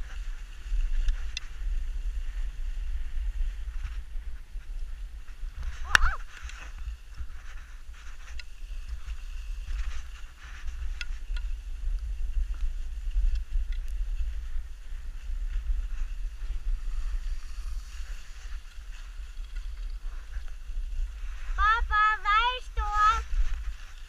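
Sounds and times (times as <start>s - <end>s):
skis scraping on snow: 0.0s - 24.0s
wind rumbling on microphone: 0.0s - 24.0s.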